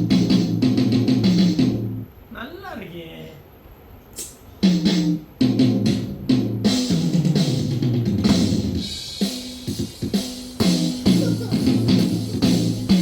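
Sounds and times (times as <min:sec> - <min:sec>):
bass: 0:00.0 - 0:02.1, 0:04.2 - 0:13.0
drum kit: 0:00.0 - 0:02.1, 0:04.2 - 0:13.0.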